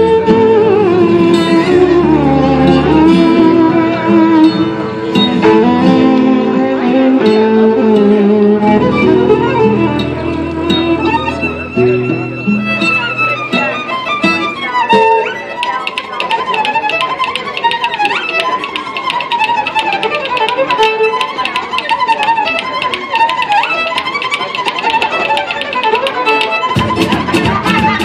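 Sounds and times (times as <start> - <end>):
solo violin folk melody: 0.0 - 28.0.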